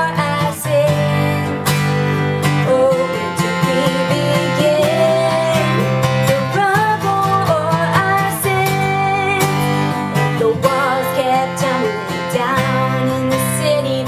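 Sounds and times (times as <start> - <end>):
acoustic guitar song: 0.0 - 14.0.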